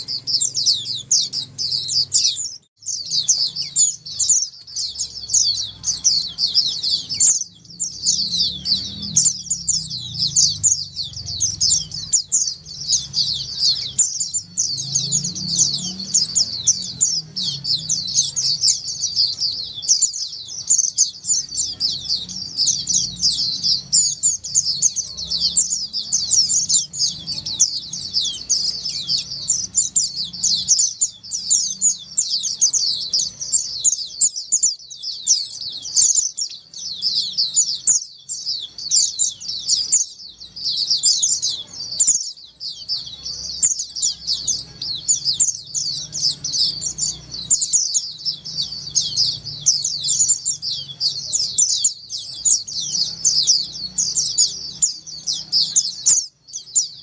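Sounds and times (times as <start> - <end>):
flock of birds chirping: 0.0 - 57.0.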